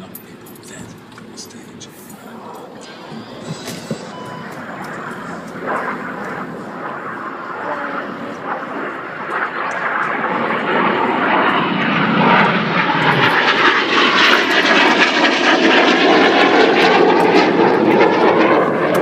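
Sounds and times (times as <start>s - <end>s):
aircraft flying past: 0.0s - 19.0s.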